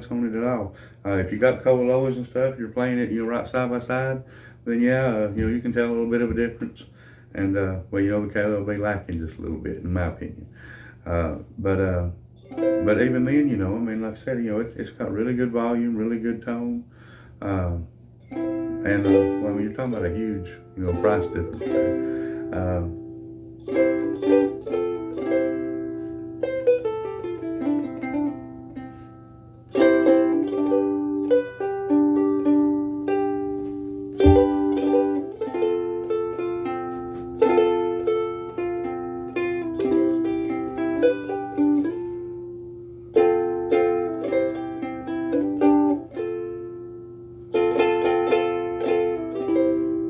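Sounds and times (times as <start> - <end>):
faint low hum: 0.0 - 50.0
ukulele strummed and picked: 1.2 - 4.1, 4.8 - 6.7, 11.8 - 16.7, 18.2 - 50.0.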